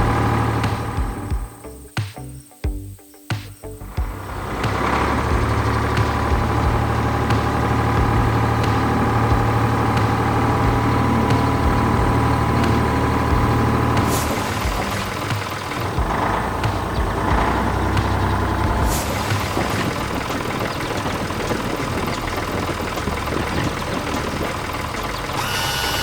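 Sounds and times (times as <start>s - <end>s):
heavy vehicle engine humming: 0.0s - 1.8s, 3.8s - 26.0s.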